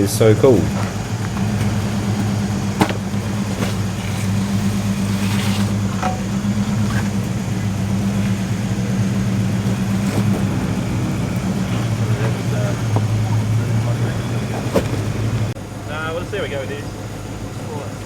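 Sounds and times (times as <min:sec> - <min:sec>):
vehicle engine running low: 0:00.0 - 0:18.0.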